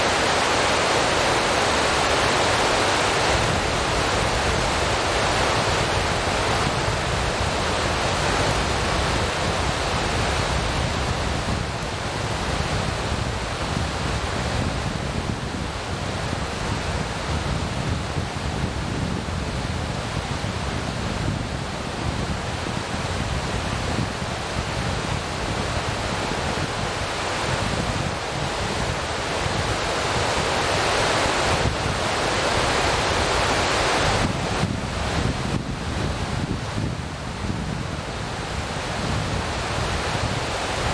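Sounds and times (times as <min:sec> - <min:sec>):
steady rushing noise: 0:00.0 - 0:40.9.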